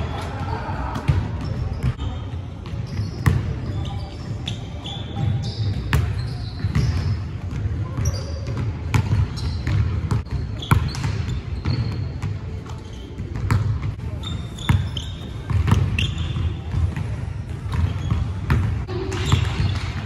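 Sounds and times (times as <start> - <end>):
sneaker squeaks: 0.0 - 20.0.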